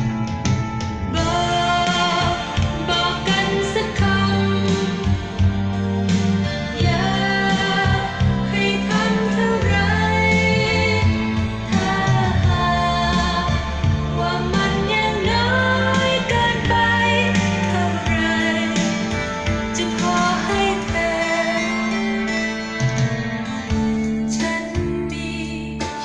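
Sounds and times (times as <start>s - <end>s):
band with bass line: 0.0s - 26.0s
woman singing pop song: 1.1s - 22.7s, 23.7s - 26.0s.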